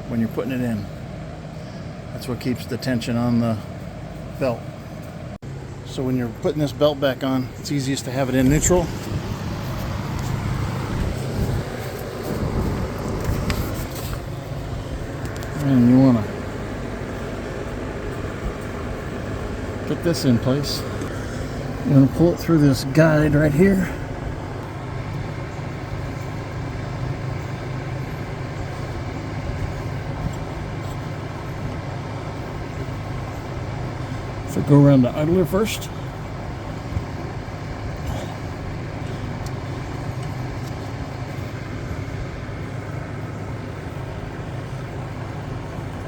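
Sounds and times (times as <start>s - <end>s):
low background rumble: 0.0s - 46.0s
low mechanical hum: 0.0s - 46.0s.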